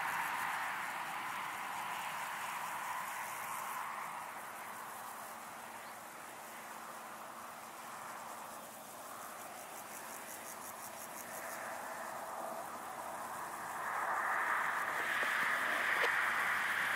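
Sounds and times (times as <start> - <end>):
insect stridulating: 0.0 - 16.9
steady background hiss: 0.0 - 16.9.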